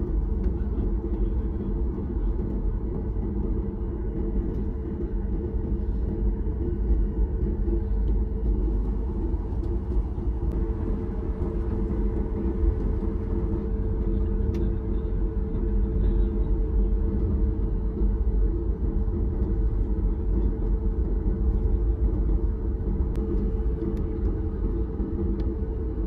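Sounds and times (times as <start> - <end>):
airliner cabin engine rumble: 0.0 - 26.0.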